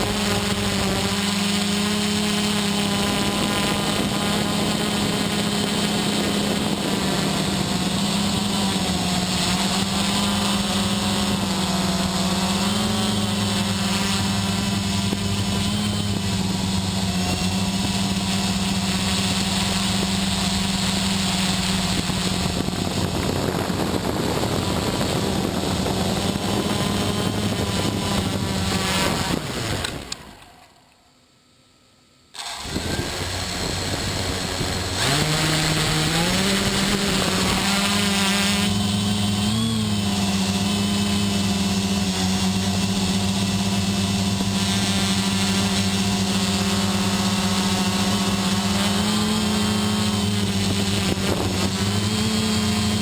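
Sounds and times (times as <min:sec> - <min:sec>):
drone propellers whirring: 0:00.0 - 0:31.0, 0:32.3 - 0:53.0.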